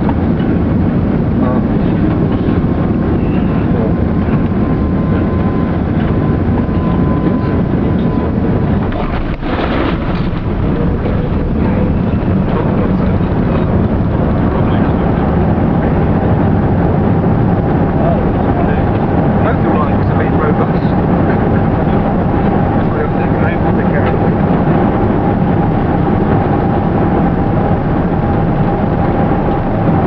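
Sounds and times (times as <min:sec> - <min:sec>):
aircraft cabin engine noise: 0:00.0 - 0:30.0.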